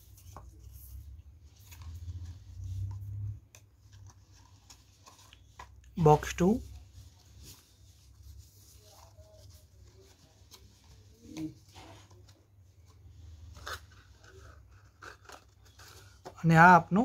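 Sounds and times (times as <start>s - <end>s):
cardstock rustling and rubbing: 0.0s - 16.6s.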